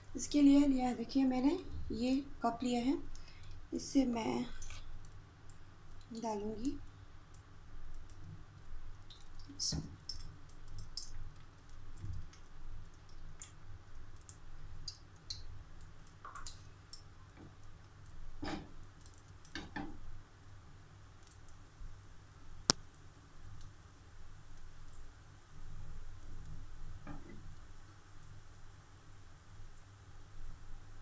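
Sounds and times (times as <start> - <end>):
hot fat crackling in a pan: 0.0 - 31.0.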